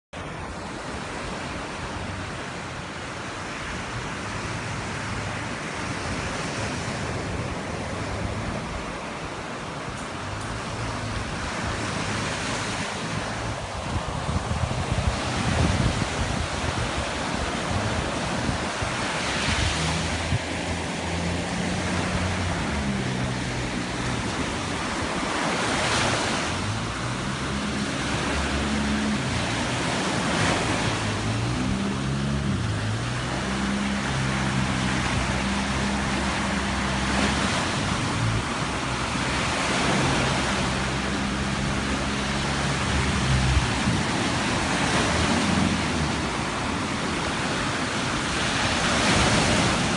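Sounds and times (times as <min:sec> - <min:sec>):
ocean surf breaking: 0:00.2 - 0:49.9
wind on microphone: 0:00.2 - 0:49.9.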